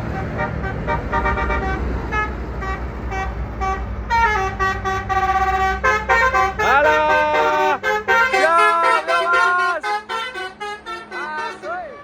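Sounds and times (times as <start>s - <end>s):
bus engine rumble: 0.0s - 12.0s
musical bus horn tooting: 0.0s - 12.0s.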